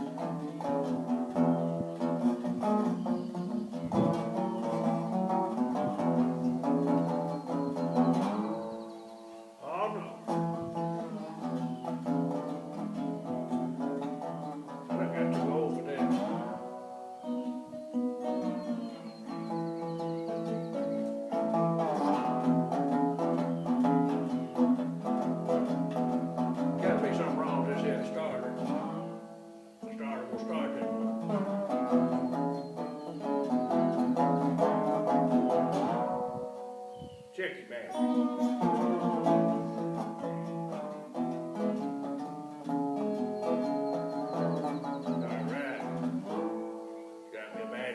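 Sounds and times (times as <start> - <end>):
resonator guitar plucked notes: 0.0 - 37.1, 37.7 - 47.9.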